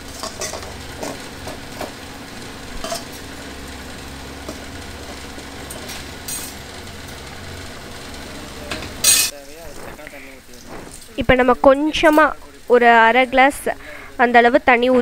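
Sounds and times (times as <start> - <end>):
faint sizzle: 0.0 - 15.0
steady low hum: 0.0 - 15.0.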